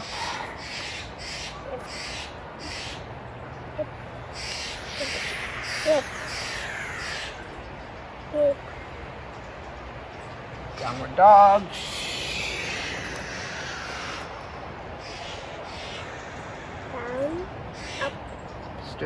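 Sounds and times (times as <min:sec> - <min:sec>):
harsh bird calls: 0:00.0 - 0:19.0.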